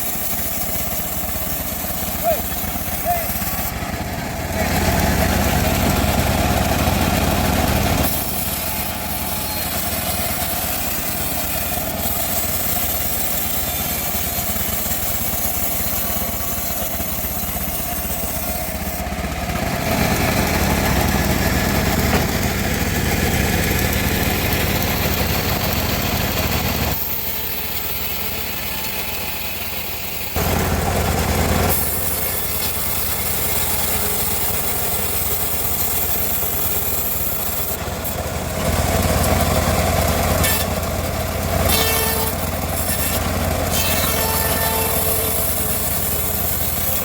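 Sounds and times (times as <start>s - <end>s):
bandsaw mill humming: 0.0s - 47.0s.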